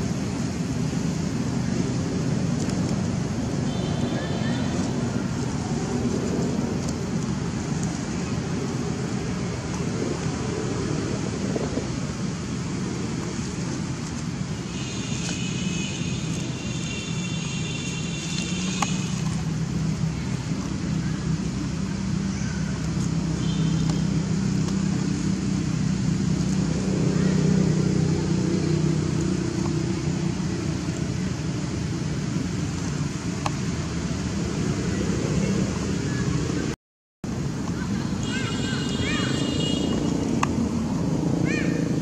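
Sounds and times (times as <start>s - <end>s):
traffic engine drone: 0.0s - 42.0s.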